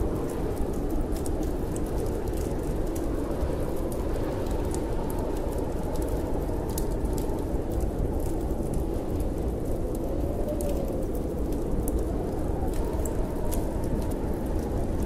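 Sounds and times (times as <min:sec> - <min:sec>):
storm wind whistling: 0:00.0 - 0:15.0
wood fire crackling: 0:00.0 - 0:15.0.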